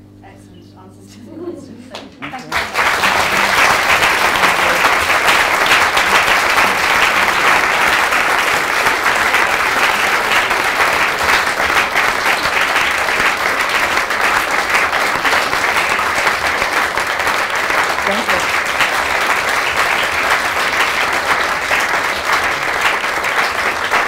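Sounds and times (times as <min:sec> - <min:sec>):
audience applauding: 0:01.9 - 0:24.0.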